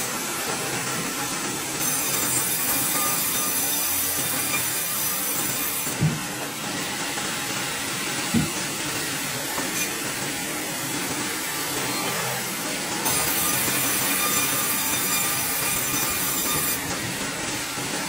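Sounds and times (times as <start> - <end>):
band saw cutting log: 0.0 - 18.0.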